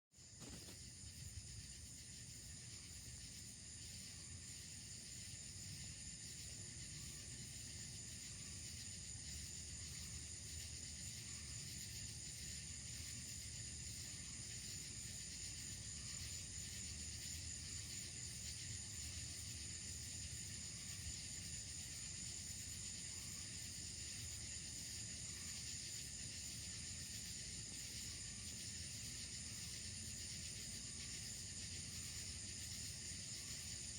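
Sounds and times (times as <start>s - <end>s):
night insects chirping: 0.2s - 33.9s.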